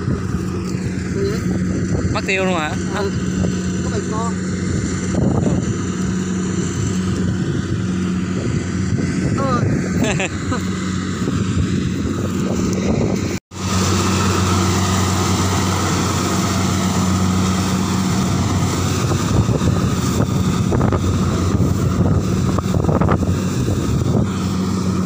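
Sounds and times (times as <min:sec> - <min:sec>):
harvester engine droning: 0:00.0 - 0:25.0.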